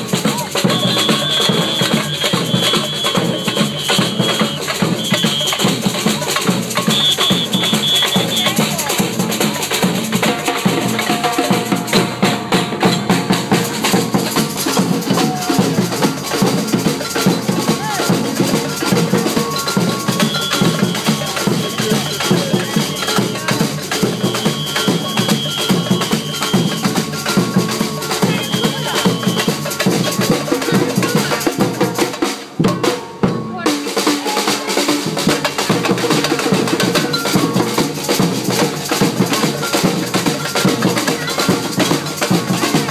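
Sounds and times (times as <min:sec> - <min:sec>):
large bass drum: 0:00.0 - 0:42.9
samba percussion band: 0:00.0 - 0:42.9.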